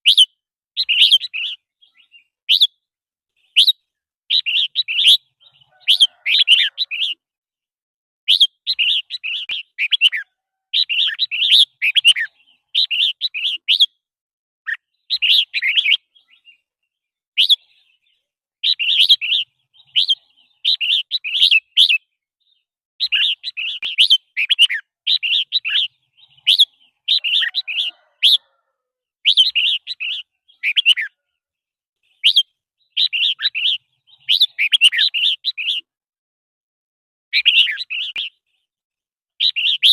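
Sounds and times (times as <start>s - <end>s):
bulbul singing: 0.0s - 7.2s, 8.3s - 14.0s, 14.7s - 28.6s, 29.2s - 31.2s, 32.0s - 35.9s, 37.3s - 38.6s, 39.4s - 39.9s.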